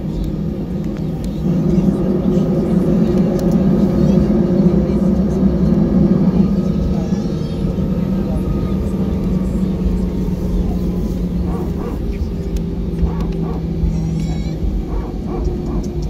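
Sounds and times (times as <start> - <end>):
rush of cabin air: 0.0 - 15.8
aircraft engines humming: 0.0 - 16.0.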